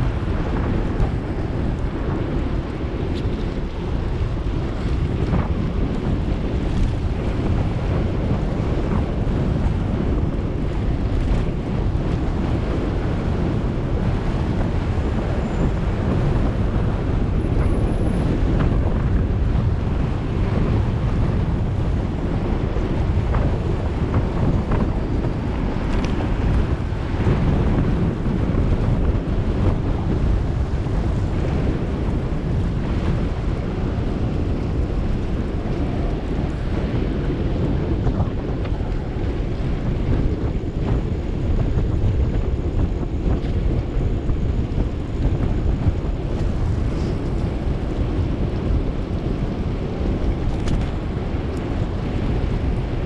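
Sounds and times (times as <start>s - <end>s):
road and traffic noise: 0.0s - 53.0s
wind buffeting microphone: 0.0s - 53.0s.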